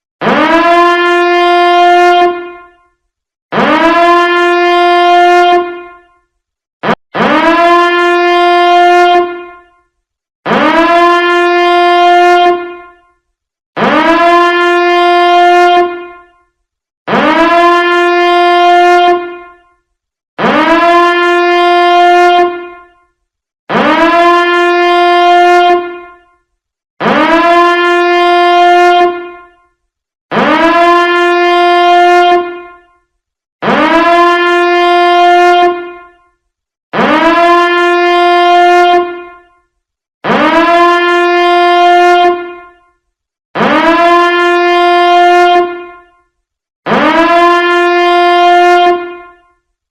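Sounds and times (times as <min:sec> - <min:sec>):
alarm horn blasts: 0:00.2 - 0:43.0, 0:43.6 - 0:49.7.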